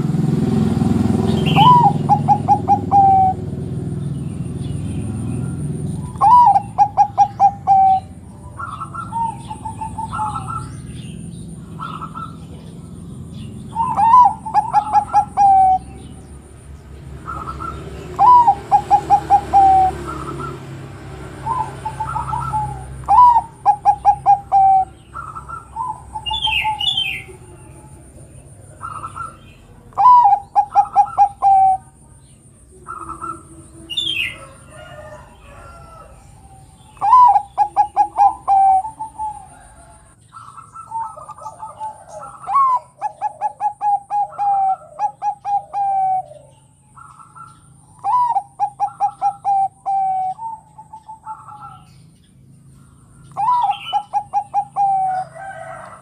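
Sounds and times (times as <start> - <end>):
dove cooing: 1.0 - 56.0.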